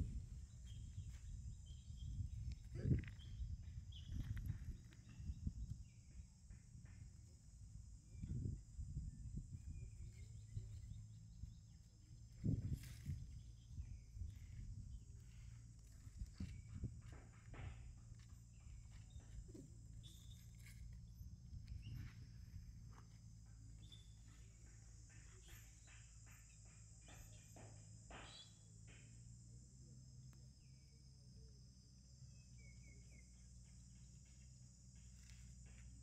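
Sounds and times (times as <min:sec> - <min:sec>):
high-pitched insect drone: 0:00.0 - 0:36.0
low background rumble: 0:00.0 - 0:36.0.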